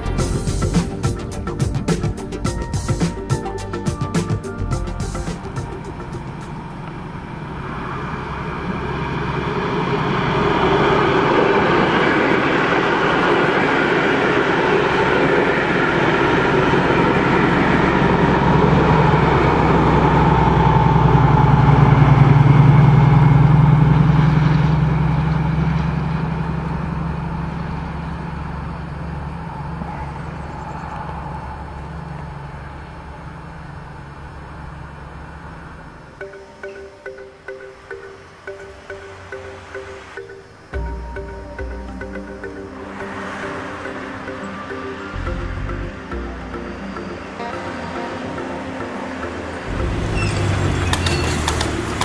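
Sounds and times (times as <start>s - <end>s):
diesel engine drone: 0.0s - 52.0s
train rolling noise: 0.0s - 52.0s.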